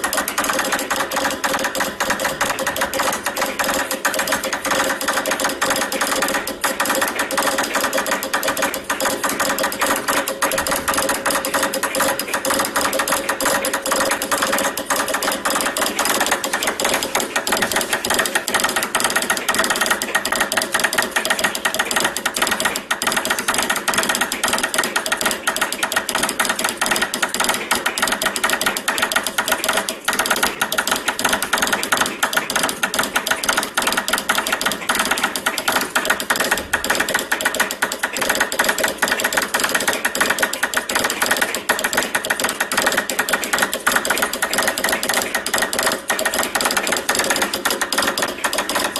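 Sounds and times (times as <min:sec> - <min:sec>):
telegraph key clicking: 0:00.0 - 0:48.9.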